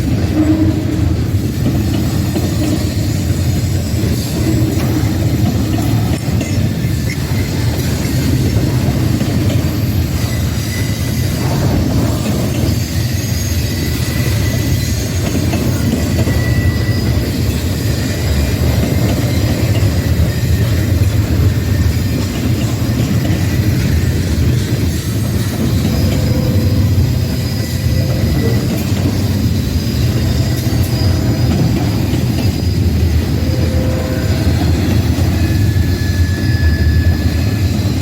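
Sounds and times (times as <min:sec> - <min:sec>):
rail cars rumbling past: 0:00.0 - 0:38.0
faint wheel squeal: 0:02.0 - 0:38.0.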